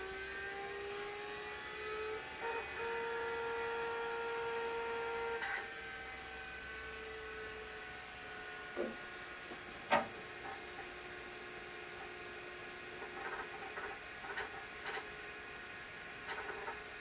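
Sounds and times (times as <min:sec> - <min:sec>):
computer hard disk and fan whine: 0:00.0 - 0:17.0.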